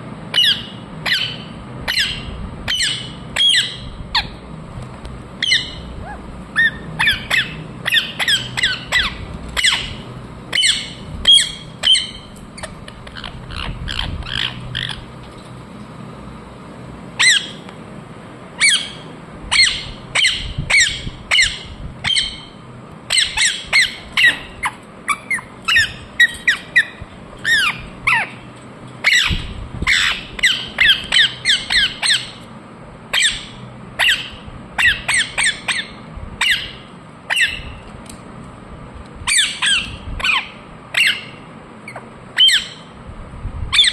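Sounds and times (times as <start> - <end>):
parrot squawking: 0.3 - 4.4, 5.4 - 15.1, 17.2 - 17.6, 18.6 - 22.5, 23.1 - 32.4, 33.1 - 37.8, 39.3 - 42.9.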